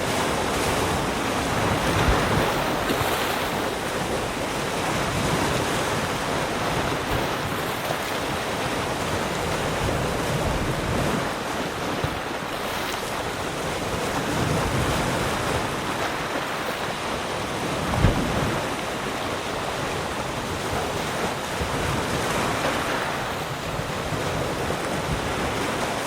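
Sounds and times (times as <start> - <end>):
ocean waves washing in: 0.0 - 26.0.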